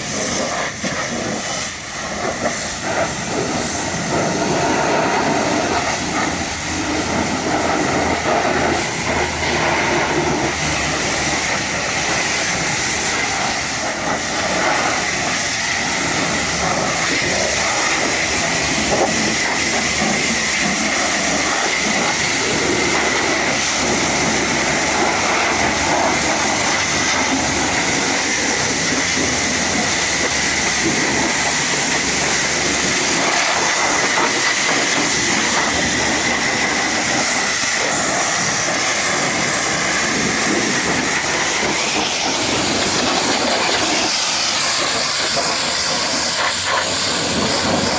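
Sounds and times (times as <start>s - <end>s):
high-pitched whine: 0.0s - 47.9s
pressure washer spraying water: 0.0s - 47.9s.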